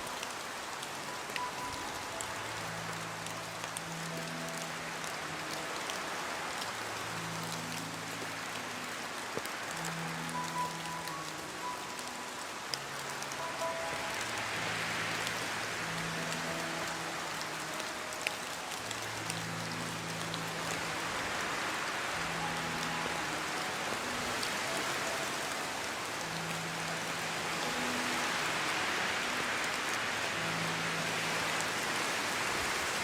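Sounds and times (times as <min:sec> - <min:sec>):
heavy rain pattering: 0:00.0 - 0:33.0.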